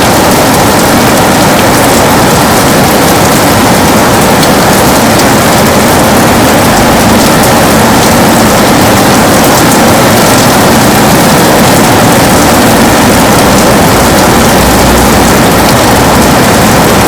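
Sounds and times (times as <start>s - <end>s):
heavy rain on a window: 0.0s - 17.0s.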